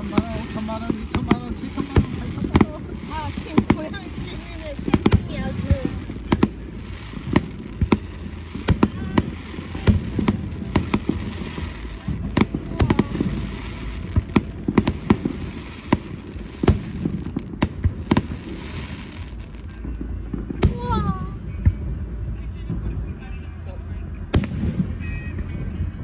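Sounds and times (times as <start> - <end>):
fireworks bursting with bangs: 0.0 - 26.0.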